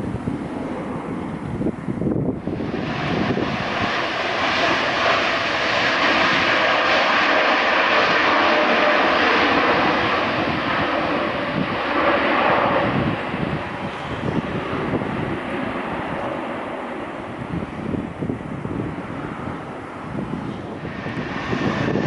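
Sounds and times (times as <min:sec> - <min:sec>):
faint engine whine: 0:00.0 - 0:22.0
jet engines roaring at takeoff: 0:00.0 - 0:22.0.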